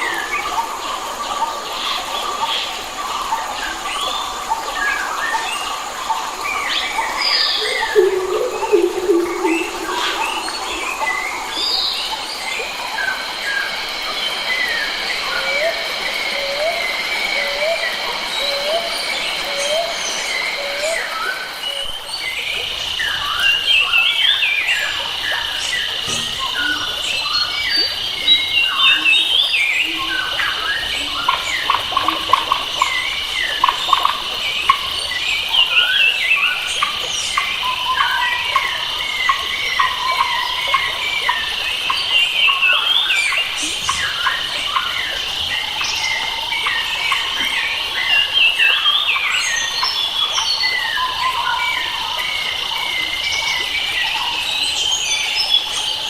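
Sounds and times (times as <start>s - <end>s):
birds calling and singing: 0.0s - 56.0s
high insect drone: 0.0s - 56.0s.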